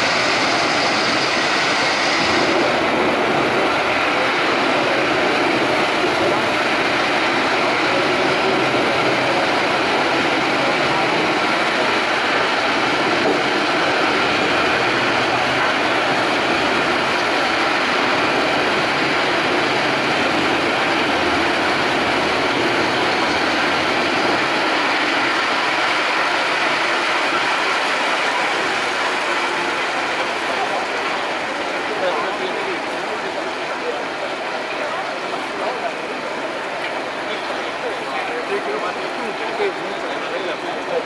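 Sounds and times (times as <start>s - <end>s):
wood shredder and excavator running: 0.0s - 34.0s.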